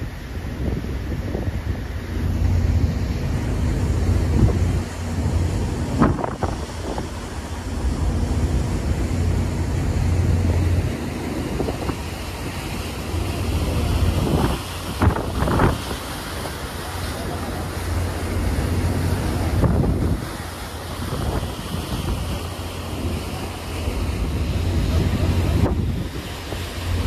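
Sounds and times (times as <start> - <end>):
water rushing: 0.0 - 27.0
wind buffeting microphone: 0.0 - 27.0
ferry engines droning: 1.6 - 27.0.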